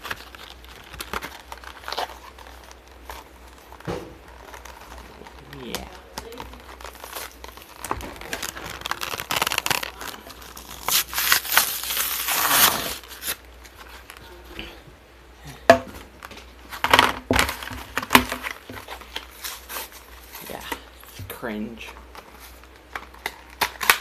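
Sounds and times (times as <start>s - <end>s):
packaging tearing and crinkling: 0.0s - 14.3s, 16.2s - 20.8s, 22.0s - 24.0s.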